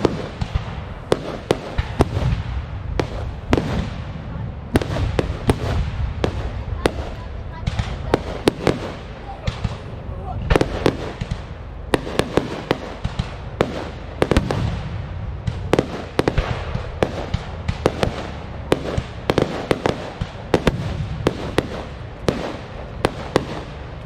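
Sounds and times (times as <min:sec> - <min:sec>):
fireworks bangs: 0:00.0 - 0:24.0
low rumble: 0:01.8 - 0:23.1.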